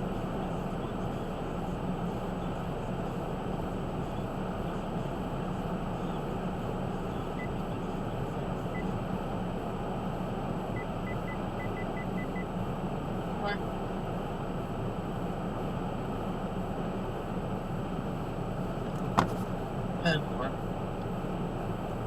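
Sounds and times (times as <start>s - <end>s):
vehicle driving rumble: 0.0s - 22.0s.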